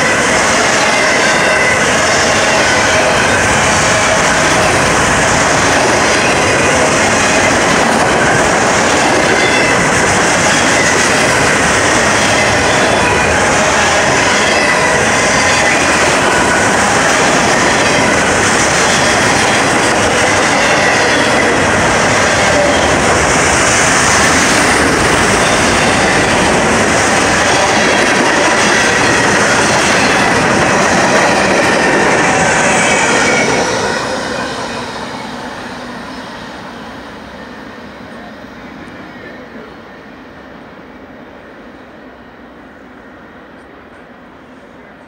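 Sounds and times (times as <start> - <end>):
freight train wheels rumbling on rails: 0.0 - 45.0.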